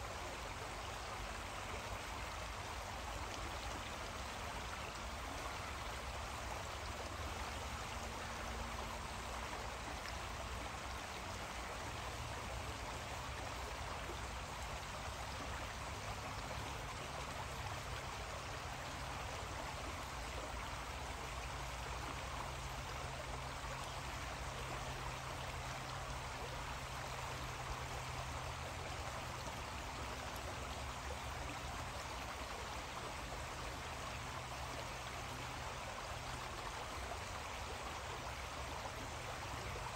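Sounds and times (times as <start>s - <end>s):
creek running: 0.0s - 39.9s.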